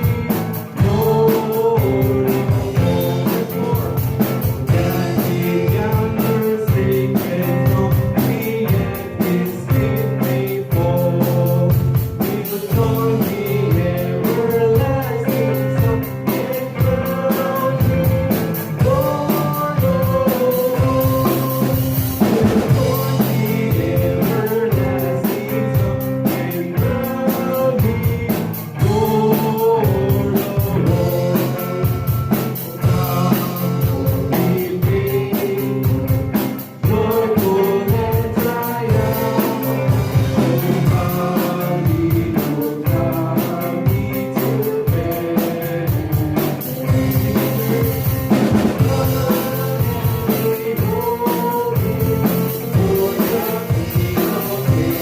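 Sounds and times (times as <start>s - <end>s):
worship band playing: 0.0s - 55.0s.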